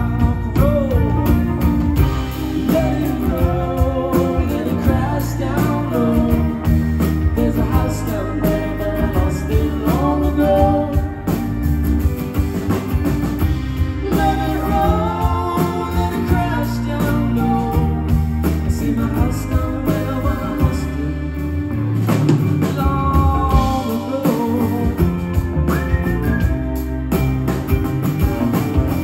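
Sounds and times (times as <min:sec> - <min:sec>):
male lead vocal: 0:00.0 - 0:11.6, 0:13.8 - 0:26.5
live rock band playing: 0:00.0 - 0:29.0.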